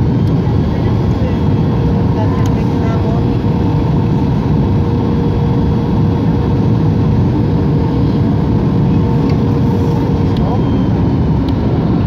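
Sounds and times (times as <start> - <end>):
airliner cabin engine and air noise: 0.0 - 12.0.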